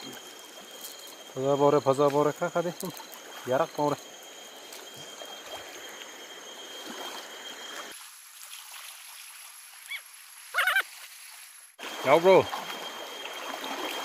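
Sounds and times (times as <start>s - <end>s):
river water running and splashing: 0.0s - 14.0s.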